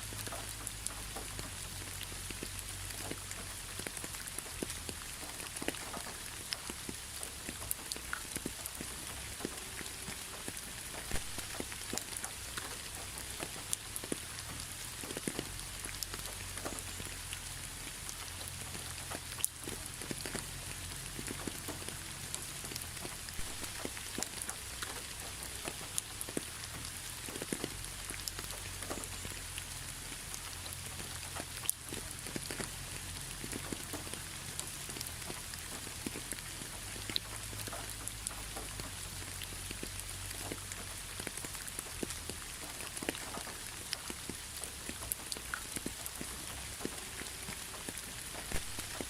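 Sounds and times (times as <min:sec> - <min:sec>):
raindrops tapping on a surface: 0:00.0 - 0:49.0
steady rain falling: 0:00.0 - 0:49.0.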